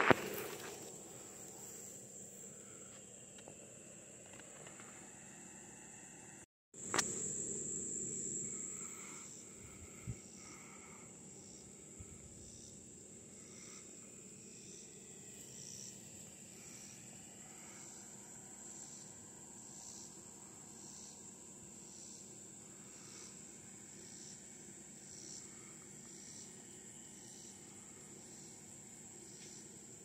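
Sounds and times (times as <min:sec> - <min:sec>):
insect chirp: 0:00.0 - 0:30.0
insects trilling: 0:00.0 - 0:30.0.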